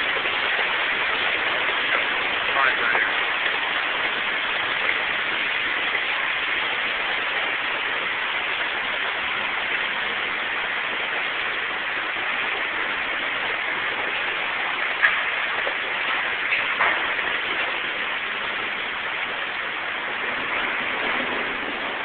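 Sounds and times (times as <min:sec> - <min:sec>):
loud steady rushing noise: 0:00.0 - 0:22.0.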